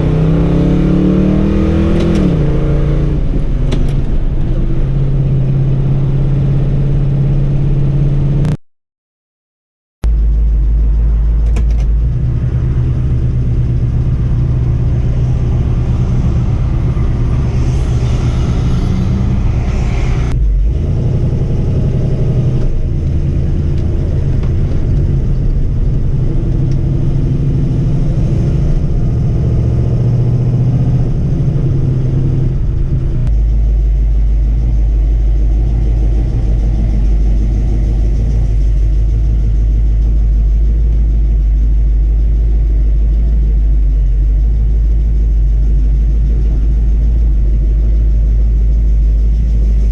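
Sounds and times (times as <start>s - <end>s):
car engine rumbling: 0.0s - 8.6s, 10.0s - 49.9s.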